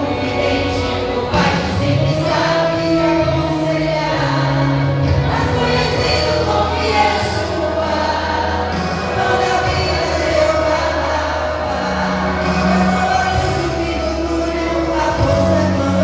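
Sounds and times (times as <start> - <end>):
steady bass accompaniment: 0.0 - 16.0
vocal group singing a hymn: 0.0 - 16.0.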